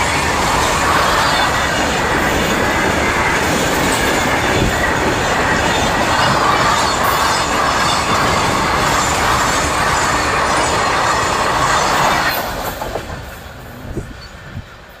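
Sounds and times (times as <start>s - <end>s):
train wheels rushing on rails: 0.0s - 15.0s.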